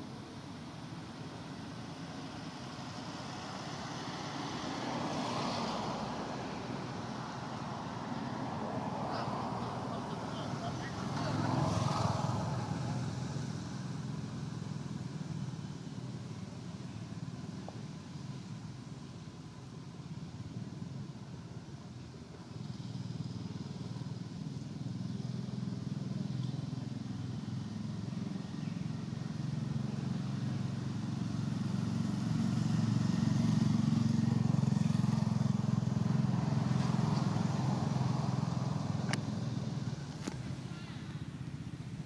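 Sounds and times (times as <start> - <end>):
vehicle engine rumble: 0.0 - 42.0.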